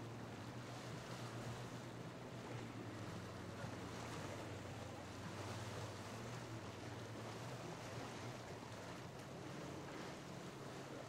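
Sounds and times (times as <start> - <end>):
motorboat engine running: 0.0 - 11.0
waves washing: 0.0 - 11.0
wind: 0.0 - 11.0.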